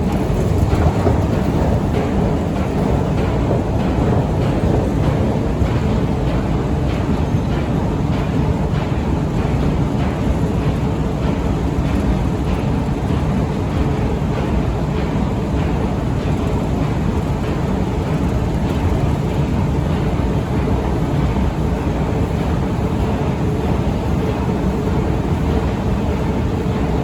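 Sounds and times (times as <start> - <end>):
escalator mechanical rumble: 0.0 - 27.0.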